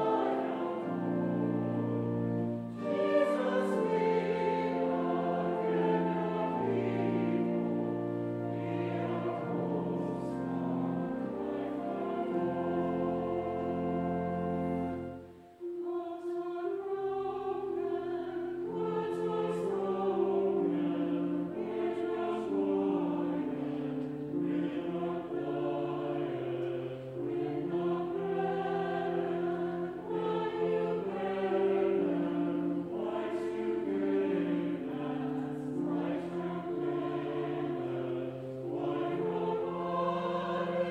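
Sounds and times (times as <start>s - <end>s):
choir singing church music: 0.0s - 40.9s.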